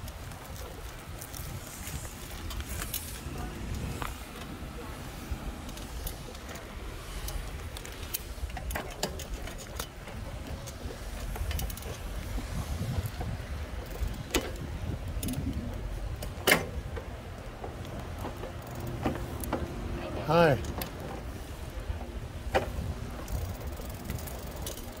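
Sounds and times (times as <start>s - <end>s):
light clicks and rattles: 0.0s - 5.0s, 5.6s - 25.0s
small vehicle rolling over asphalt: 0.0s - 25.0s.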